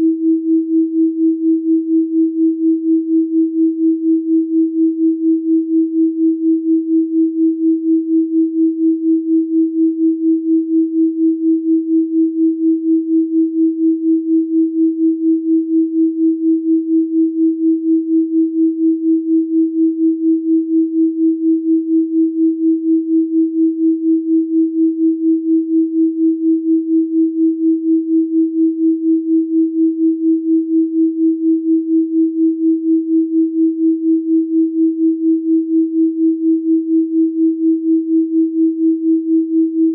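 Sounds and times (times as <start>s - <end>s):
pulsing electronic sine tone: 0.0s - 39.9s.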